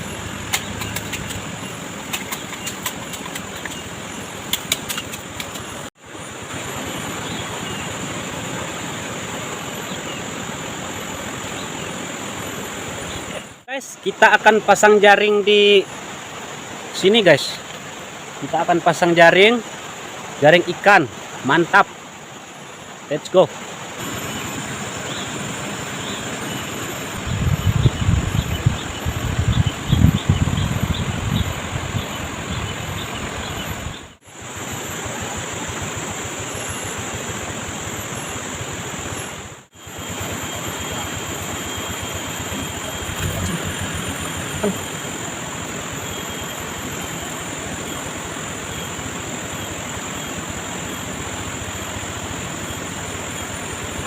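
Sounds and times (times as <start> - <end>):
flowing stream water: 0.0 - 54.0.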